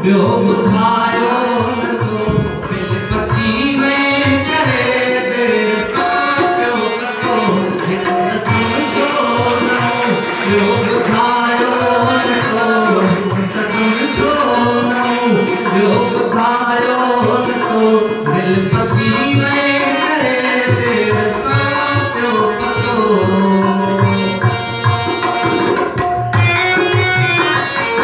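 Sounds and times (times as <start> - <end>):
hand drum: 0.0 - 5.2, 6.0 - 28.0
man singing into a microphone: 0.0 - 25.6
harmonium: 0.0 - 28.0.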